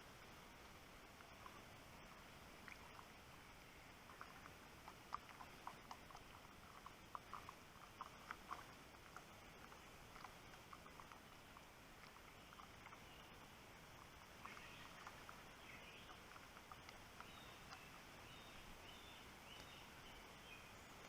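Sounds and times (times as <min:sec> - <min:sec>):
faint steady hiss: 0:00.0 - 0:21.0.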